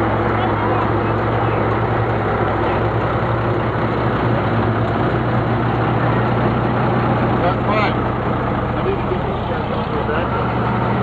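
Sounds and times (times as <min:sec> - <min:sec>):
fire truck engine running: 0:00.0 - 0:11.0.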